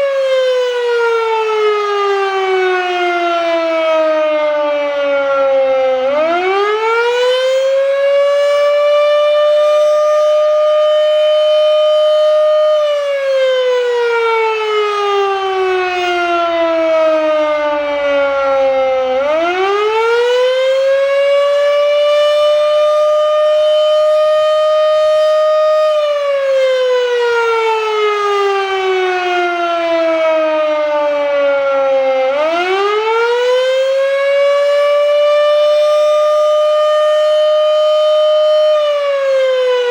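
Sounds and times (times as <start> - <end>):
fire siren wailing: 0.0 - 39.9.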